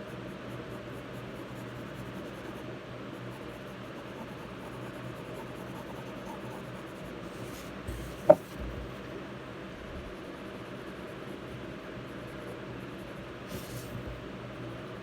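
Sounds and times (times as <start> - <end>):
pencil scratching on paper: 0.0 - 9.0, 10.1 - 15.0.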